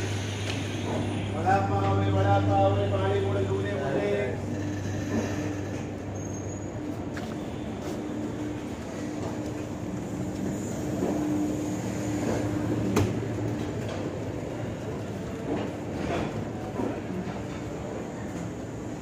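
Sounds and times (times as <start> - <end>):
train coaches rumbling: 0.0 - 19.0.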